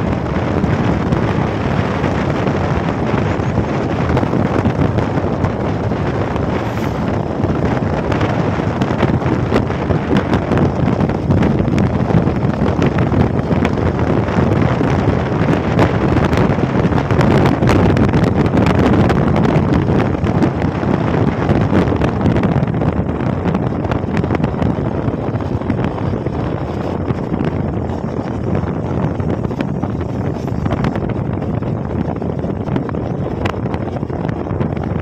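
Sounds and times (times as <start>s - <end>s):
motorcycle engine: 0.0s - 35.0s
road noise: 0.0s - 35.0s
wind rushing over microphone: 0.0s - 35.0s.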